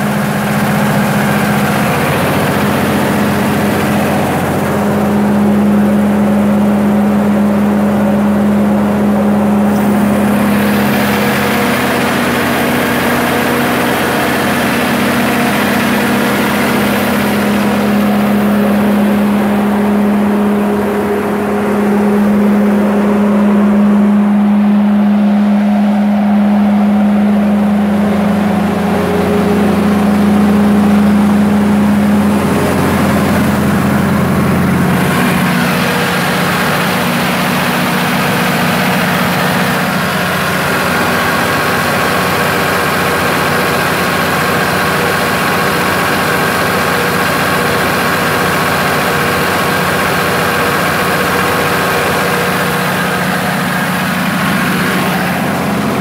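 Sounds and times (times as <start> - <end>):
diesel generator engine drone: 0.0 - 56.0.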